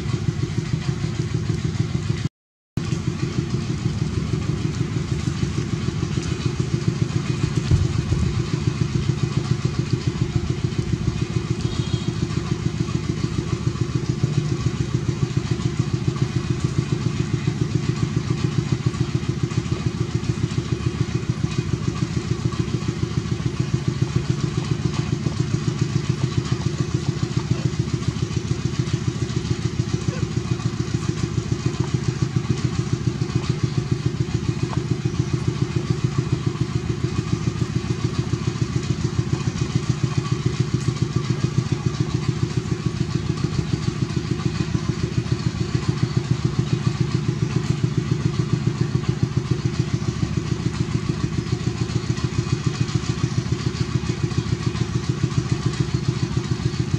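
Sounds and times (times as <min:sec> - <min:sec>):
small engine idling: 0:00.0 - 0:56.9.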